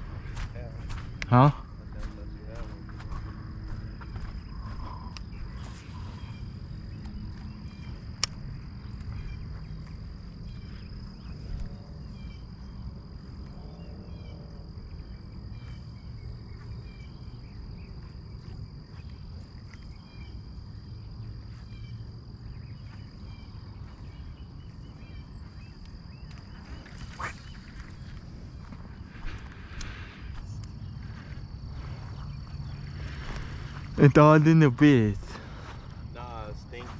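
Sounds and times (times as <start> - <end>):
steady low rumble: 0.0 - 34.4
insect trilling: 1.3 - 18.1, 18.9 - 36.8.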